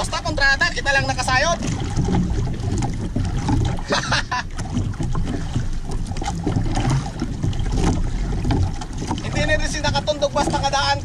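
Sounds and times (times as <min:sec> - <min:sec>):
water washing against boat hull: 0:00.0 - 0:11.0
wind rumbling on microphone: 0:00.0 - 0:11.0.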